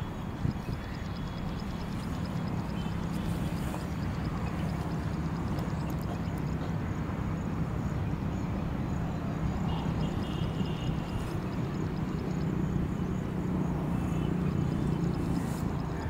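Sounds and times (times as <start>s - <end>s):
faint chirping: 0.1s - 16.0s.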